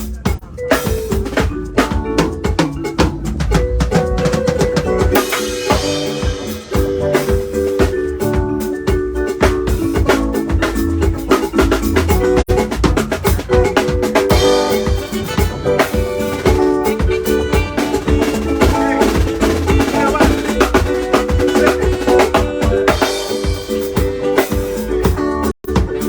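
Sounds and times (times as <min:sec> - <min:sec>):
loud music with drum beat: 0:00.0 - 0:26.0.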